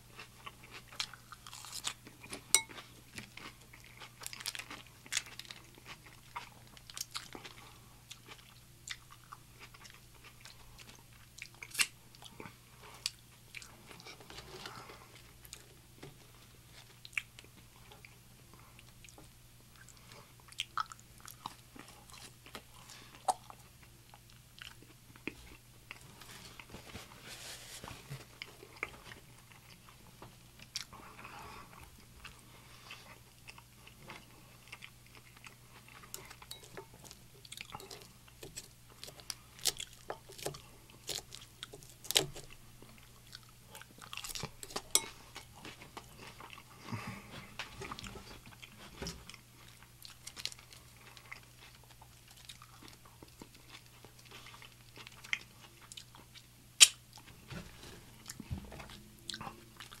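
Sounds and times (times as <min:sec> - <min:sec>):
chewing and crisp crunching: 0:00.0 - 1:00.0
faint low hum: 0:00.0 - 1:00.0.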